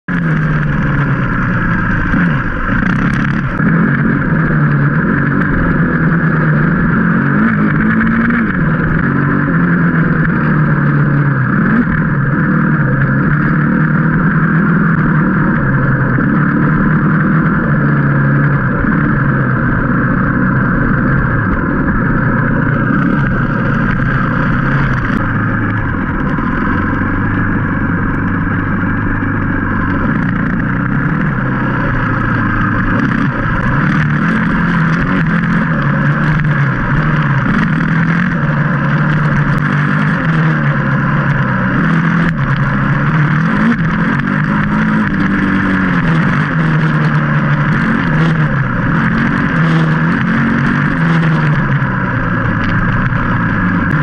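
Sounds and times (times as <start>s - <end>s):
dirt bike engine: 0.0s - 54.0s.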